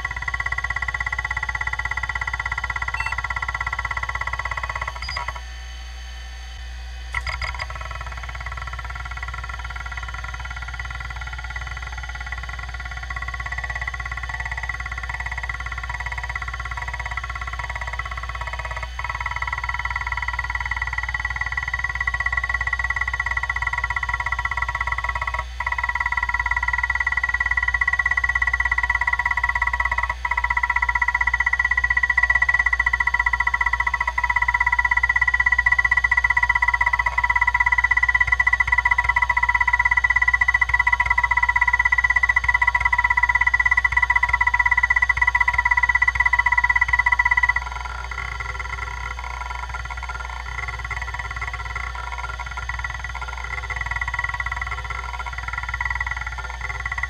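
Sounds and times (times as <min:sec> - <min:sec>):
hard drive whine: 0:00.0 - 0:57.0.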